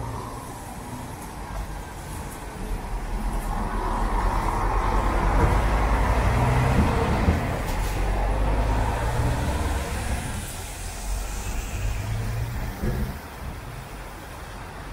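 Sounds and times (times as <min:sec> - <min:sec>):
car passing: 0:01.8 - 0:14.2.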